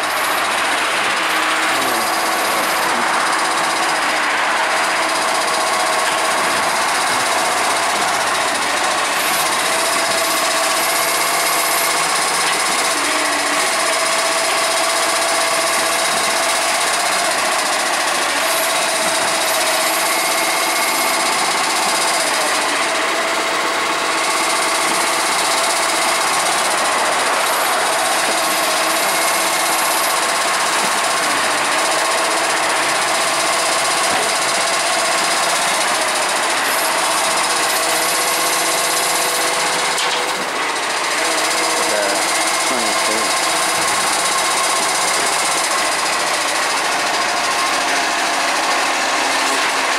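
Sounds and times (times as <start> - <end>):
diesel engine rattling: 0.0 - 49.9
hydraulic arm lifting bins: 0.0 - 49.9
steady whining tones: 0.0 - 49.9.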